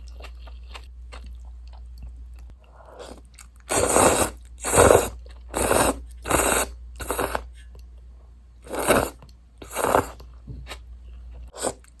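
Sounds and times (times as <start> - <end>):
close-miked eating noodles: 0.0 - 7.5, 8.6 - 10.8, 11.4 - 12.0.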